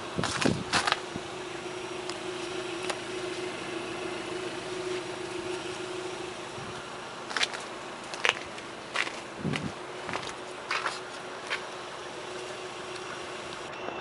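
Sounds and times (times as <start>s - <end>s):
droning hum: 0.0s - 14.0s.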